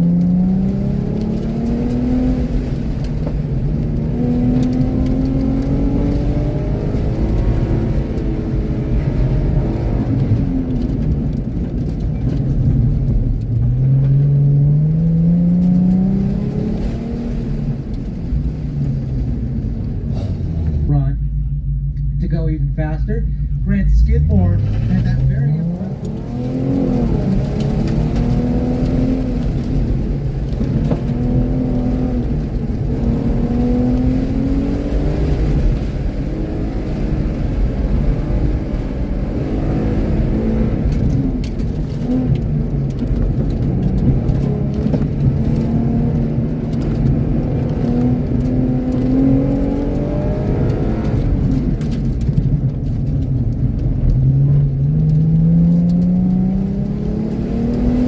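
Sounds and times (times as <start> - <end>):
car engine revving from inside: 0.0 - 11.2, 13.5 - 18.9, 19.8 - 53.2, 53.8 - 58.0.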